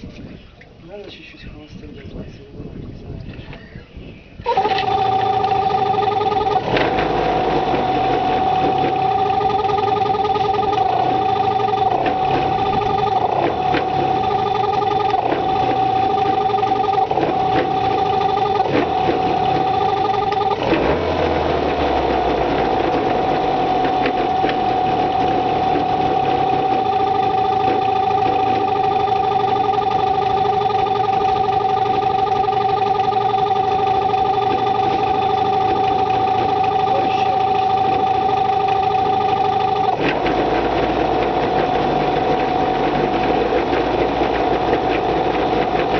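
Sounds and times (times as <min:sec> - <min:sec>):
outboard boat motor idling: 0:04.4 - 0:45.9.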